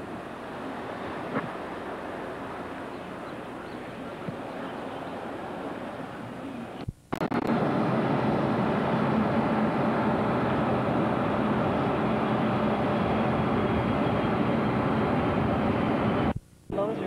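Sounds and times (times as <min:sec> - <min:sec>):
airliner engines droning: 0:00.0 - 0:17.0.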